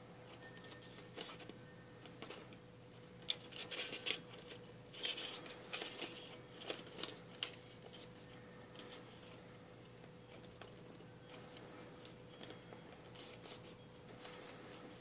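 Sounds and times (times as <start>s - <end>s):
paper rustling and crackling: 0.4s - 9.4s, 10.3s - 15.0s.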